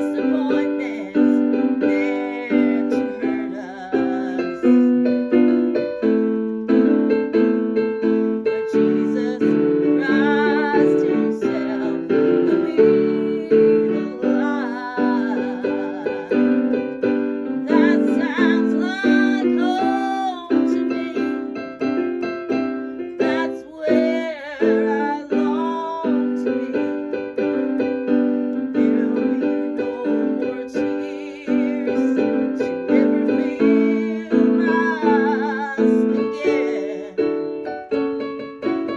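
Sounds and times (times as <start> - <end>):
piano repeated chords: 0.0 - 38.9.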